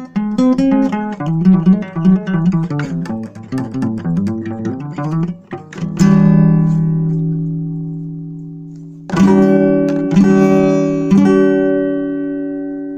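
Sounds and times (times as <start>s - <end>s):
guitar picked notes: 0.0s - 12.9s
strummed guitar chords: 0.0s - 12.9s.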